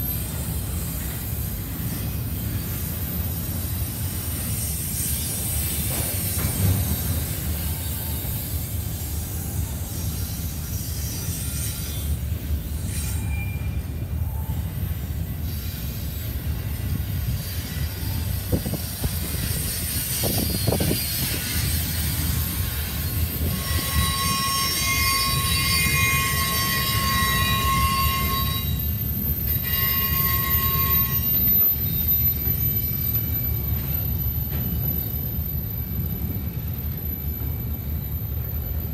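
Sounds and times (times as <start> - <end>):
train wheels rumbling on rails: 0.0 - 38.9
wheels squealing: 0.0 - 38.9.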